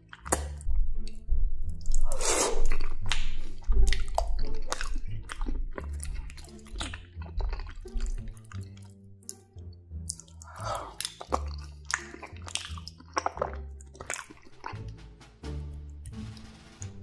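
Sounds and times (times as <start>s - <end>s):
man chewing: 0.0s - 15.0s.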